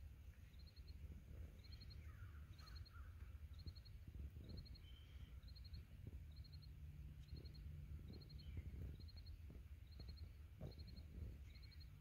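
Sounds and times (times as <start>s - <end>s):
insect chirping: 0.4s - 12.0s.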